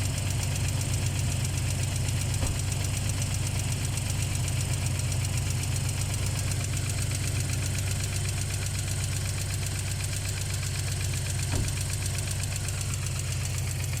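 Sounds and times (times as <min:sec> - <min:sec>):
petrol engine idling: 0:00.1 - 0:14.0.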